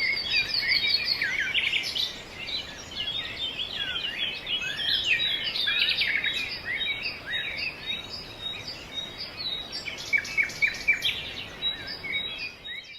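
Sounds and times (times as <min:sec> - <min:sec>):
songbirds chirping: 0:00.0 - 0:12.9.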